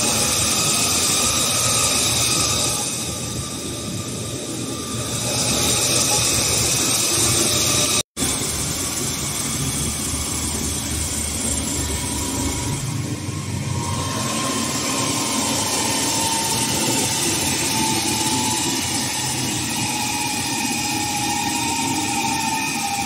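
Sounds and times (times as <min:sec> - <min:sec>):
machine mechanical whir: 0:00.0 - 0:23.0.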